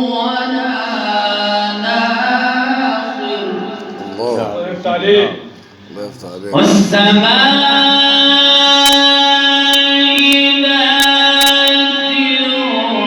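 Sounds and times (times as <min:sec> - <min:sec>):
man chanting melodic recitation: 0:00.0 - 0:12.6.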